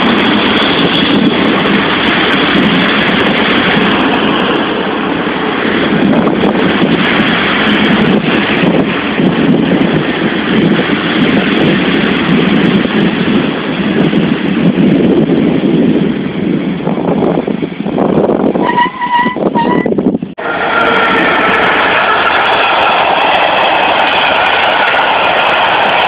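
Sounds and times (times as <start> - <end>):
freight train rolling past: 0.0 - 26.0
train coaches rolling past: 0.0 - 26.0.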